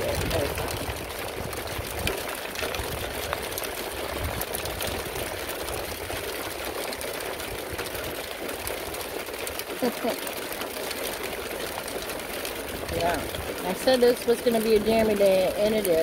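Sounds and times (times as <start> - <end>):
hail rattling on surfaces: 0.0 - 16.0.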